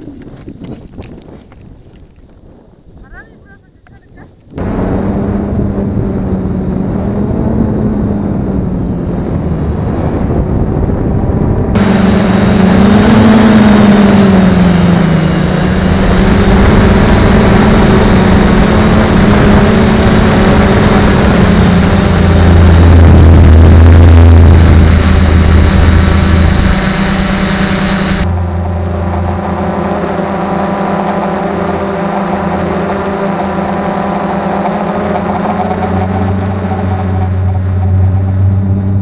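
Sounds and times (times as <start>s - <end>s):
drone propellers humming: 4.4s - 39.0s.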